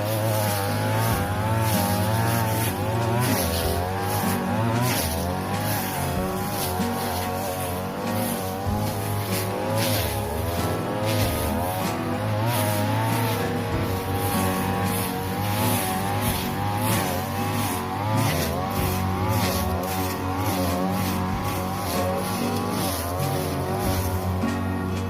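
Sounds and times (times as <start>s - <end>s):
blade swishing through grass: 0.0s - 25.0s
brush cutter engine: 0.0s - 25.0s.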